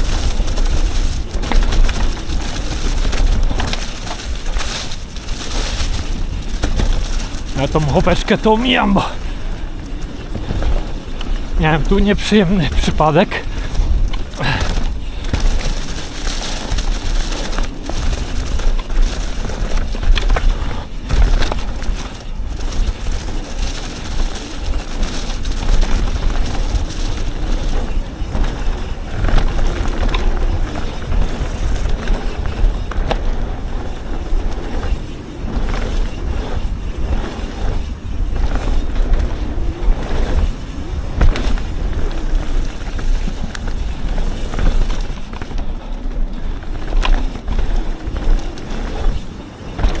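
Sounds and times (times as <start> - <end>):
bike knocks and rattles: 0.0 - 50.0
mountain bike rushing on dirt trail: 0.0 - 50.0.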